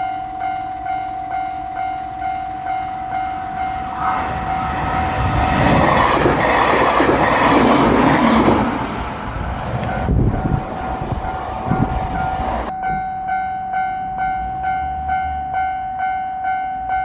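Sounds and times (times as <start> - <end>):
railroad crossing bell ringing: 0.0 - 8.2, 9.8 - 17.0
train wheel and rail noise: 0.0 - 17.0.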